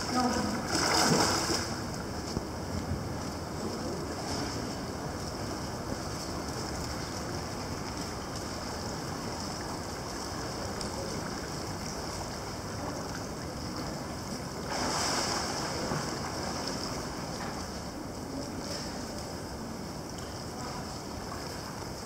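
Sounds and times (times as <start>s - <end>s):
pool water churning: 0.0s - 22.0s.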